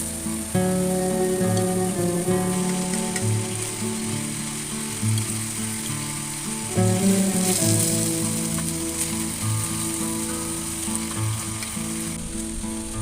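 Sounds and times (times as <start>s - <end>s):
food sizzling in a pan: 0.0s - 13.0s
instrumental background music: 0.0s - 13.0s.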